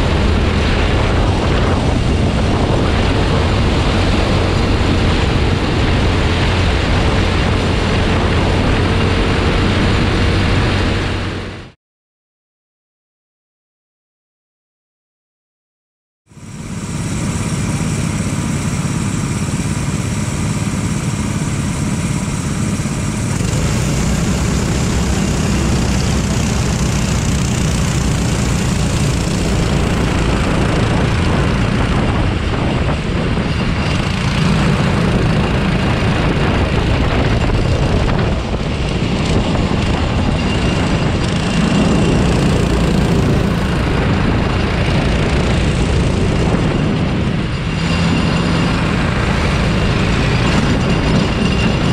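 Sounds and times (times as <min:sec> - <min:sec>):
kart engine running: 0:00.0 - 0:11.7, 0:16.3 - 0:51.9.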